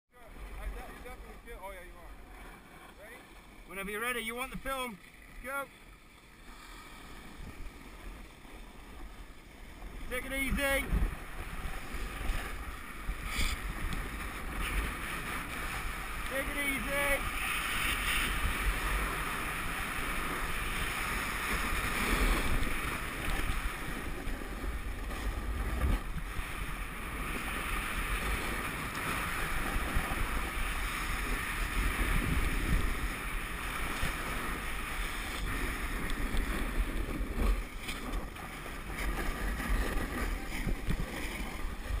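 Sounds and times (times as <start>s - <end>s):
skis scraping on crusty snow: 0.5s - 42.0s
wind buffeting microphone: 7.2s - 42.0s.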